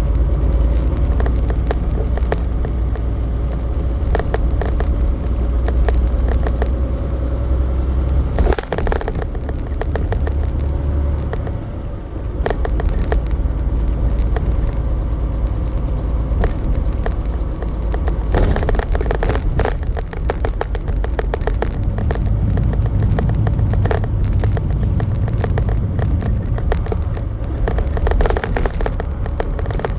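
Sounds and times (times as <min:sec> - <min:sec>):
sharp clicks and rattling knocks: 0:00.0 - 0:29.9
truck engine and road rumble: 0:00.0 - 0:29.9.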